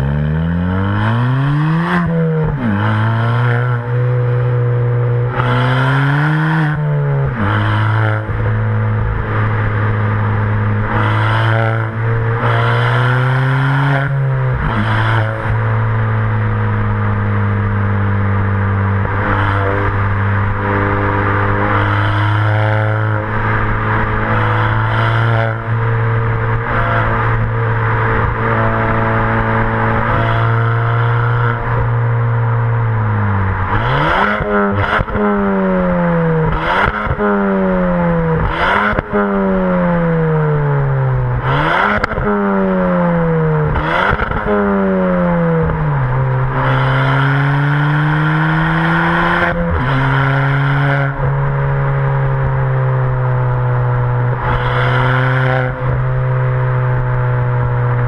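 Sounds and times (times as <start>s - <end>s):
car exhaust while driving: 0.0s - 58.0s.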